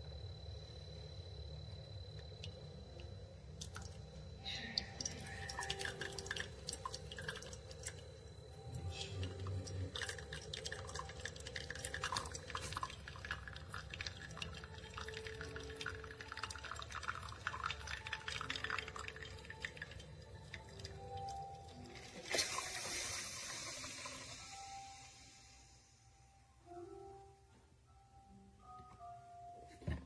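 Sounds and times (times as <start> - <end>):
coffee maker low hum: 0.0 - 25.8
coffee dripping into cup: 1.0 - 25.6.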